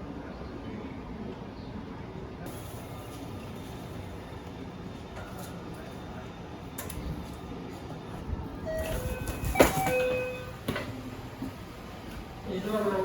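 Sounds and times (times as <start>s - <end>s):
standing train rumbling: 0.0s - 13.0s.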